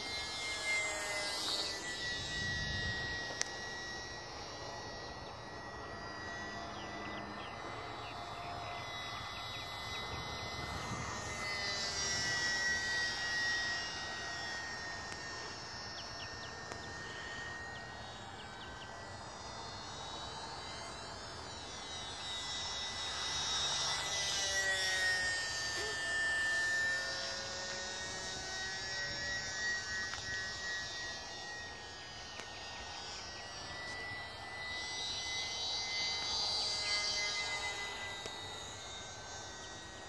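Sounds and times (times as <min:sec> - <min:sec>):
model airplane motor whining: 0:00.0 - 0:40.0.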